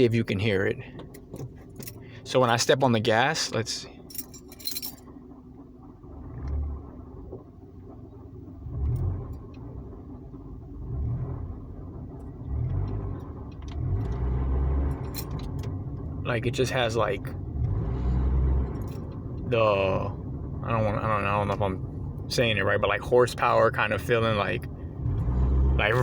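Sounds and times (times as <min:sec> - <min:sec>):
car engine rumbling while accelerating: 0:00.0 - 0:26.0.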